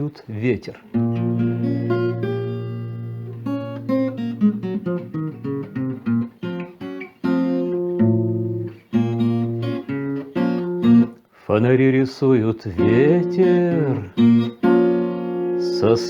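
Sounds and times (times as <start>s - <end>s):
acoustic guitar playing: 0.8s - 16.0s.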